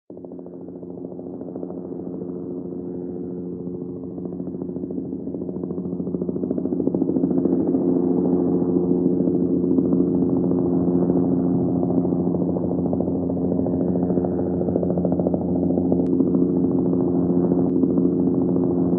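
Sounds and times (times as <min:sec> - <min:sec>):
engine drone: 0:00.1 - 0:18.9
helicopter rotor beating: 0:00.1 - 0:18.9.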